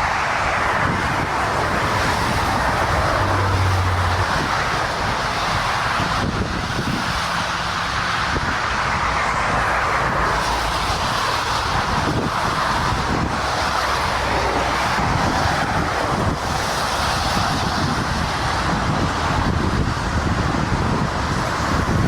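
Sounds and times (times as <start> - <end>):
jet engines and wheels rushing: 0.0 - 22.0.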